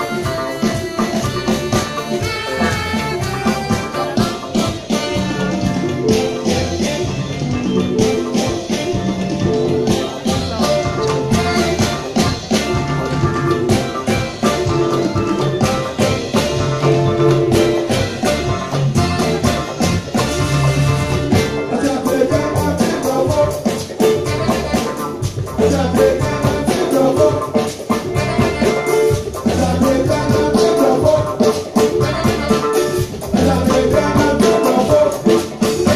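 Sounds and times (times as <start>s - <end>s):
drum kit and percussion beat: 0.0s - 35.9s
live band playing: 0.0s - 35.9s.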